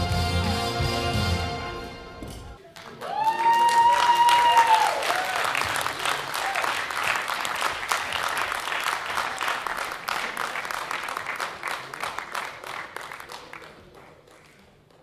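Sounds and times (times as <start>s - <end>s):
audience clapping: 2.6s - 15.0s.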